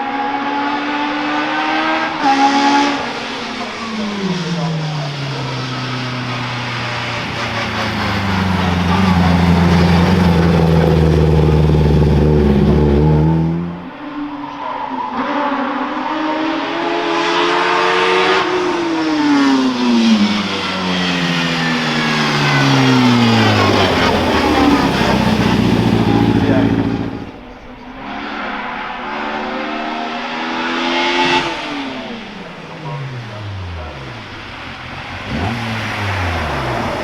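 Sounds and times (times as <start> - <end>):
race car engines at full throttle: 0.0 - 37.0.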